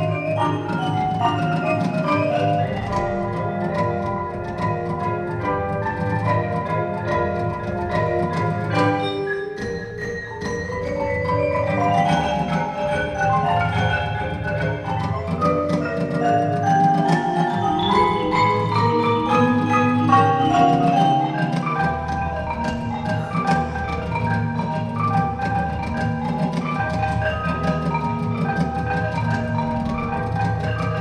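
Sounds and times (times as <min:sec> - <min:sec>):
marimba percussion music: 0:00.0 - 0:31.0.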